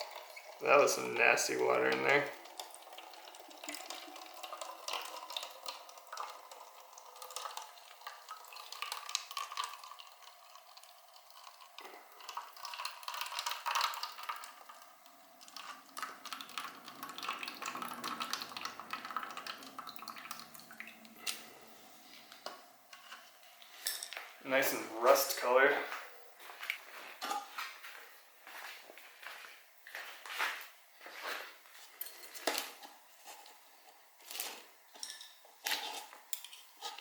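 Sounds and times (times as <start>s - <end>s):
coolant trickling into a pan: 0.0s - 25.7s, 31.1s - 37.0s.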